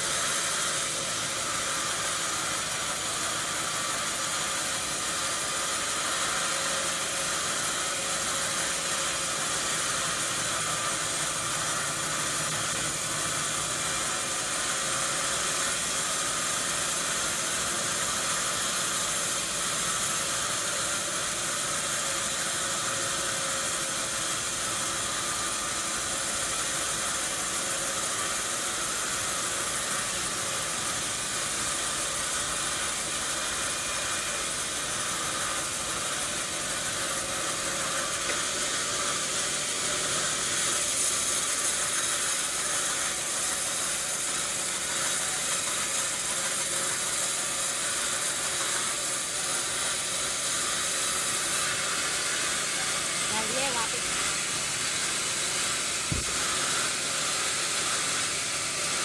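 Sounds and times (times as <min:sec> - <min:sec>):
sawmill machinery hissing: 0:00.0 - 0:59.0.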